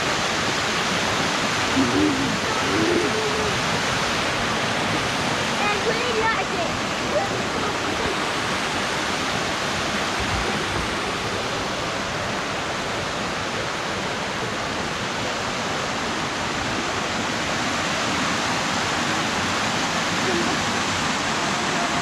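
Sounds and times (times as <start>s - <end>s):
creek water rushing over waterfall: 0.0s - 22.0s.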